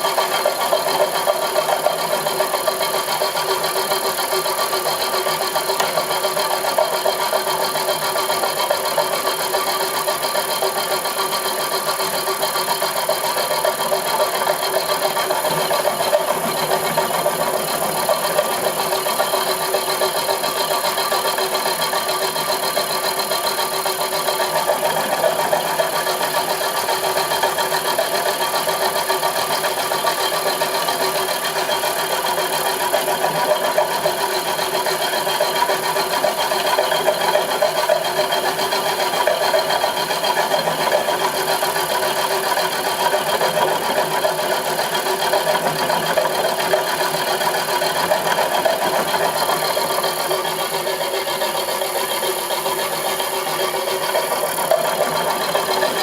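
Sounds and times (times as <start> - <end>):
rough mechanical noise: 0.0 - 56.0
milling machine whining: 0.1 - 56.0.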